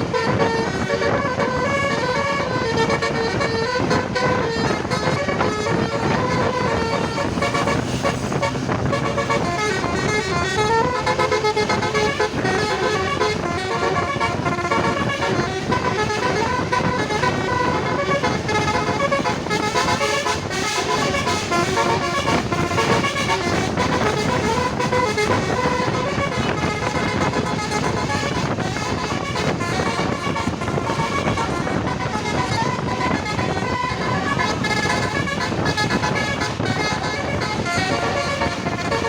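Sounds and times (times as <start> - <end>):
multi-tone bus horn tune: 0.0 - 39.0
steady low rumble: 0.0 - 39.0.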